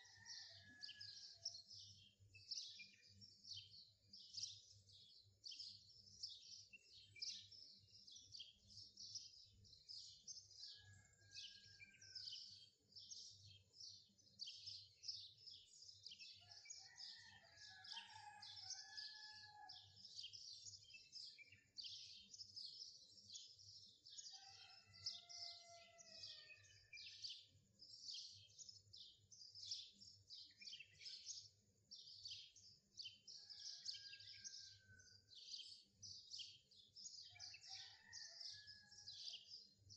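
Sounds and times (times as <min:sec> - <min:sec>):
faint birdsong chirps: 0:00.0 - 0:39.9.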